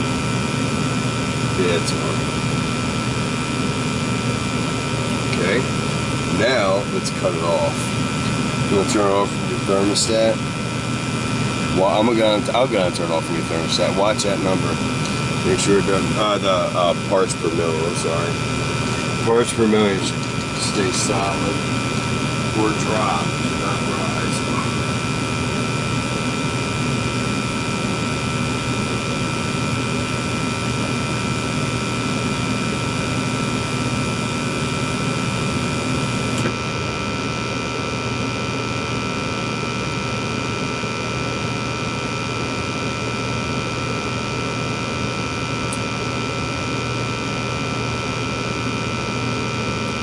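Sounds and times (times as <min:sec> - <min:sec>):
fan motors humming: 0:00.0 - 0:50.0.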